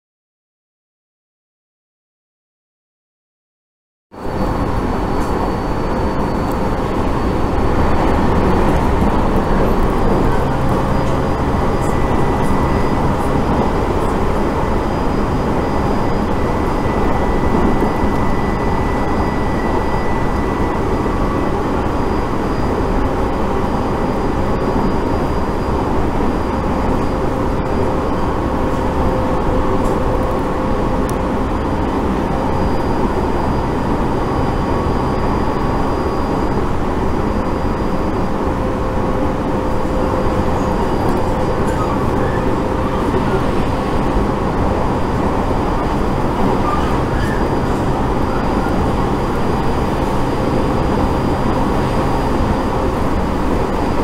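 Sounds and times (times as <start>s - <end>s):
electric train rumbling: 4.2s - 54.0s.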